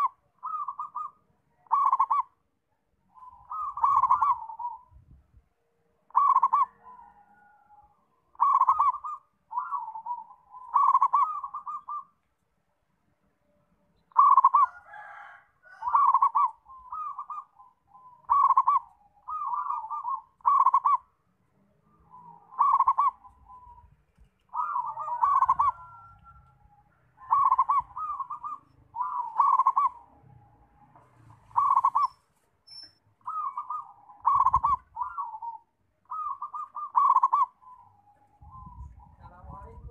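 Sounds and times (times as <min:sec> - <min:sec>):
dove cooing: 0:00.0 - 0:02.4, 0:03.1 - 0:05.1, 0:06.1 - 0:12.2, 0:14.0 - 0:21.2, 0:21.8 - 0:39.9.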